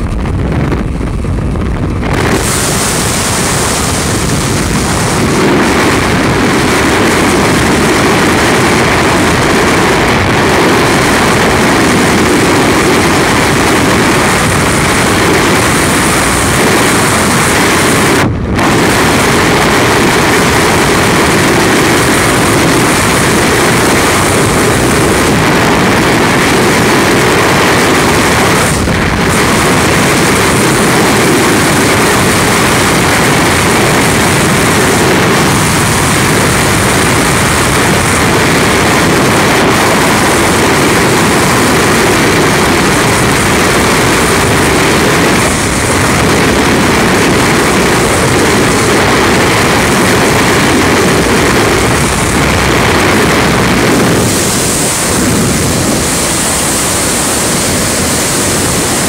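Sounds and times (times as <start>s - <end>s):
wind roaring over microphone: 0.0s - 59.0s.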